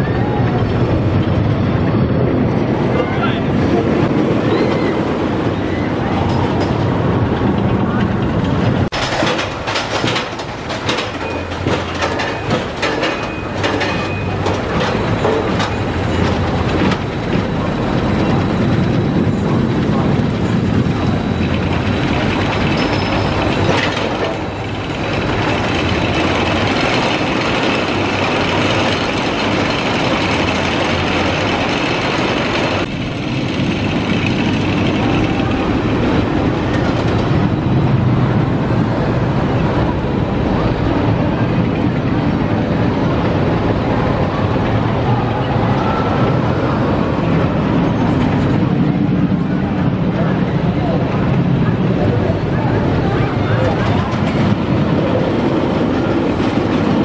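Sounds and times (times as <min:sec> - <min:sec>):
roller coaster clattering on track: 0:00.0 - 0:57.0.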